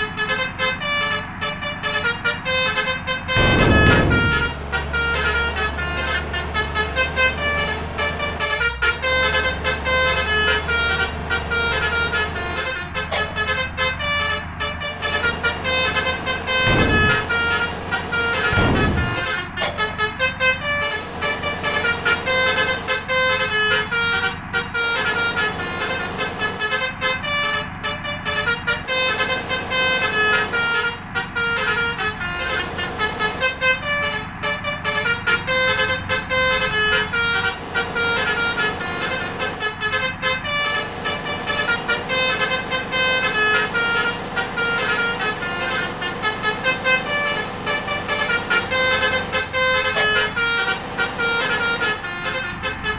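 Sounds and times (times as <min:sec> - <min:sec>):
bus air horn playing a tune: 0:00.0 - 0:52.9.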